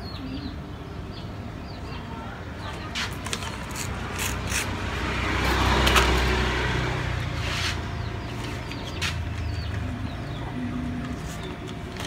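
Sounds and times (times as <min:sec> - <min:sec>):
passing vehicle rumble: 0:02.2 - 0:12.0.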